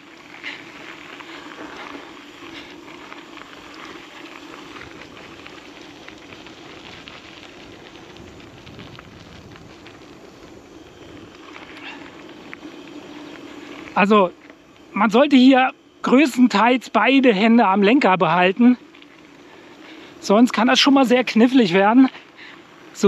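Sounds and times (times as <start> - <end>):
bike tyres crackling on gravel: 0.0 - 23.0
low tyre hum: 0.0 - 23.0.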